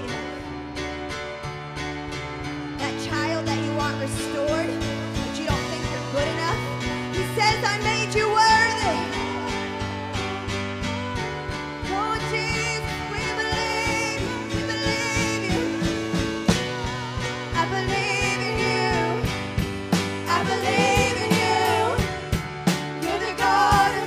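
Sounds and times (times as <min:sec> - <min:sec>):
woman singing: 0:02.8 - 0:22.4, 0:23.0 - 0:24.0.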